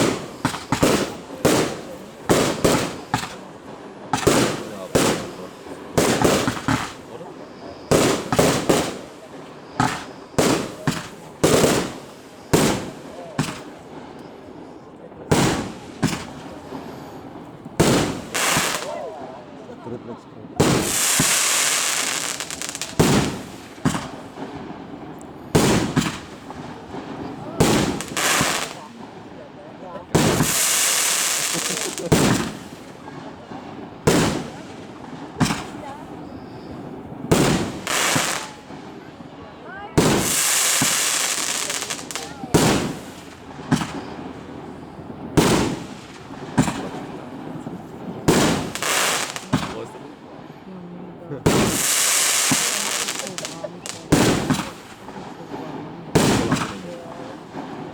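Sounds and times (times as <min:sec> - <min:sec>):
fireworks crackling hiss: 0:00.0 - 0:19.6, 0:20.4 - 0:50.6, 0:51.3 - 0:57.9
fireworks bangs: 0:00.0 - 0:57.9.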